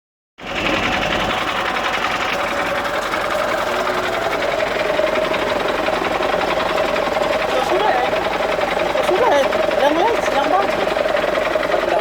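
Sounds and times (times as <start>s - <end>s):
car engine clattering: 0.4s - 12.0s.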